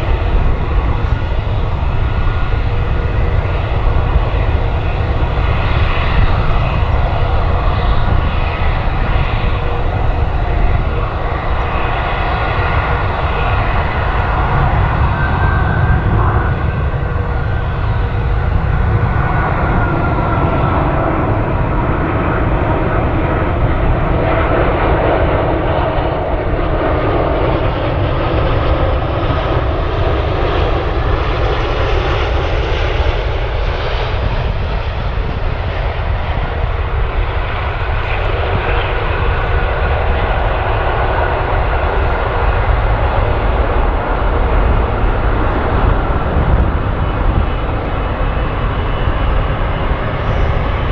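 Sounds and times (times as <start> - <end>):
airliner engines rushing: 0.0 - 50.9.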